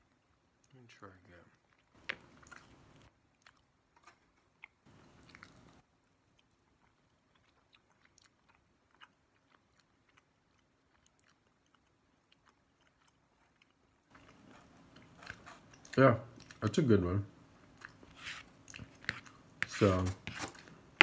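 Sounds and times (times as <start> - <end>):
wet chewing with mouth clicks: 1.4 - 16.7, 17.5 - 19.8.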